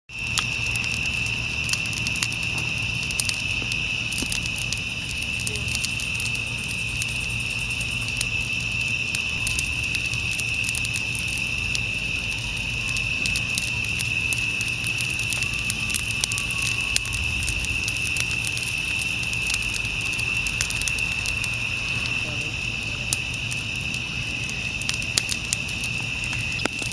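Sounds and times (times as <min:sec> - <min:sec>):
insects trilling: 0:00.1 - 0:26.9
low background rumble: 0:00.2 - 0:26.9.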